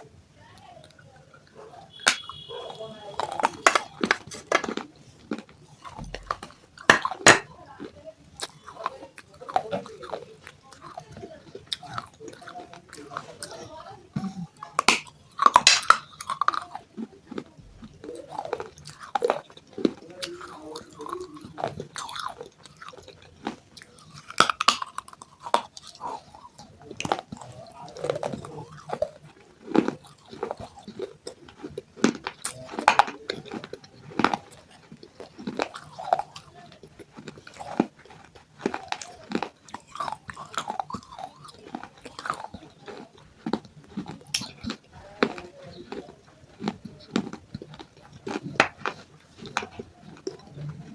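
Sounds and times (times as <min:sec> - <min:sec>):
chewing broken clay pot: 0:00.8 - 0:50.9.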